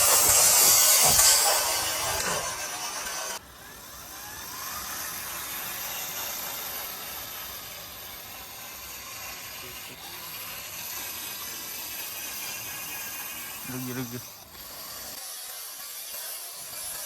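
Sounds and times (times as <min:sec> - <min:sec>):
toy electric motor whirring: 0:00.0 - 0:17.0.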